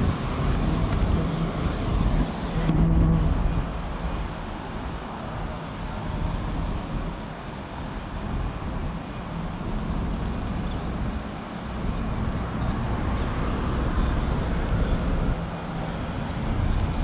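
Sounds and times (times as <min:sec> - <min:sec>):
distant road traffic: 0:00.0 - 0:17.0
wind rumble on microphone: 0:00.0 - 0:17.0.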